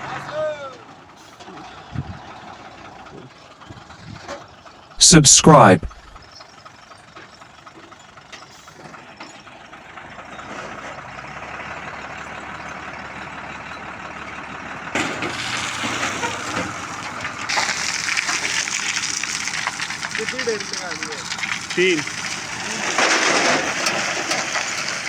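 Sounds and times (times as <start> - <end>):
diesel vehicle engine running: 0.0 - 5.0, 5.9 - 25.0.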